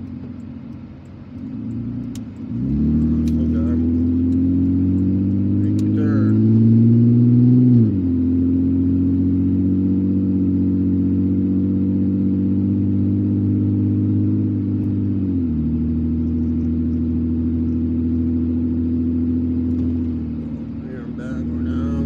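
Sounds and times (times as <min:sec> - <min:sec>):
car engine while driving: 0:00.0 - 0:22.0.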